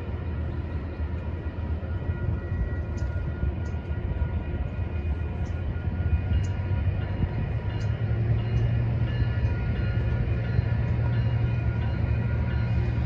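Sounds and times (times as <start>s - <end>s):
diesel locomotive humming: 0.0s - 13.0s.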